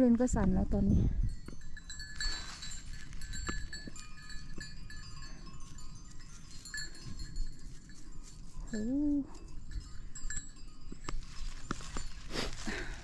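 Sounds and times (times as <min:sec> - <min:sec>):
goat bells clinking: 0:01.2 - 0:13.0.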